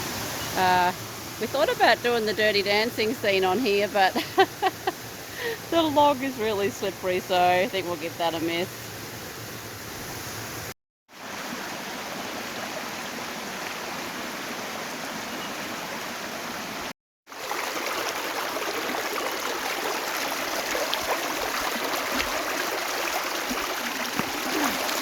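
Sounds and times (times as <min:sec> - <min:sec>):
creek water running over rocks: 0:00.0 - 0:25.0.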